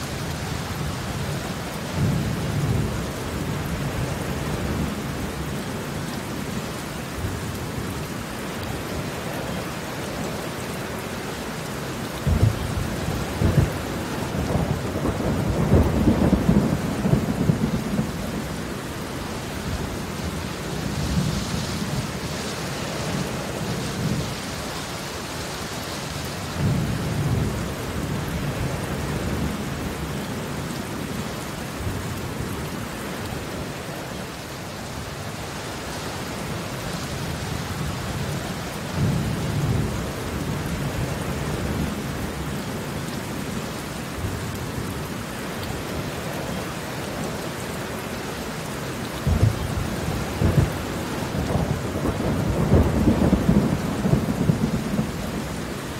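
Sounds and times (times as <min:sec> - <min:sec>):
rain on concrete pavement: 0:00.0 - 0:55.9.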